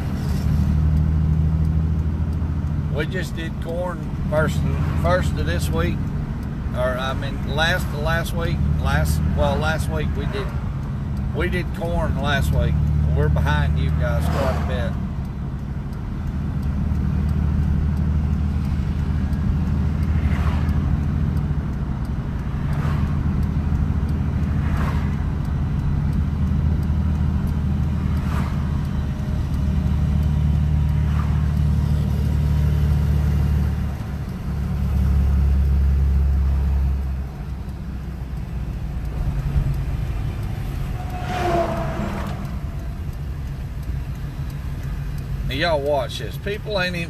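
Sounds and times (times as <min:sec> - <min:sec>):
vehicles passing by: 0:00.0 - 0:47.0.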